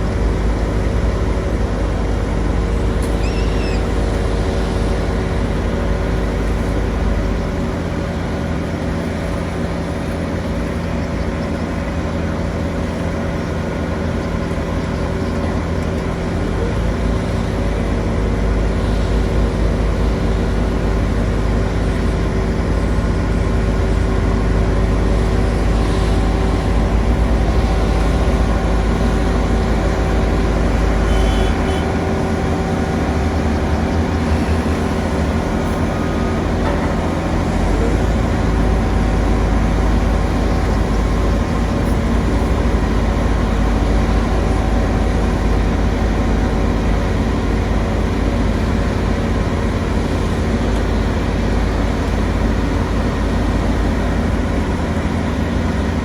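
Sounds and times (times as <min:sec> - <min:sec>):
heavy machinery engine rumbling: 0:00.0 - 0:56.0.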